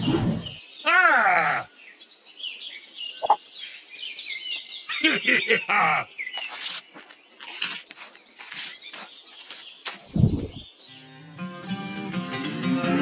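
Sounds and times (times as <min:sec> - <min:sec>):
birds chirping: 0:00.0 - 0:11.1.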